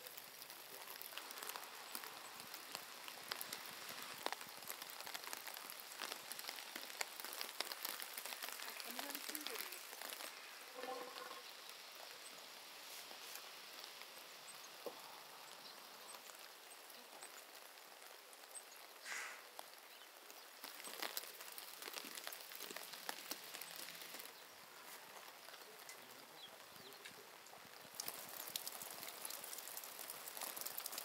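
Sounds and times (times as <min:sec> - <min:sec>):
light rain pattering: 0:00.0 - 0:31.0.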